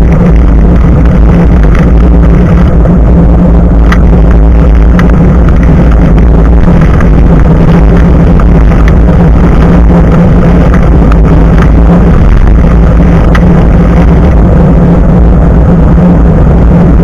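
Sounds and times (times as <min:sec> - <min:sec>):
wind and tyre rumble: 0:00.0 - 0:17.0.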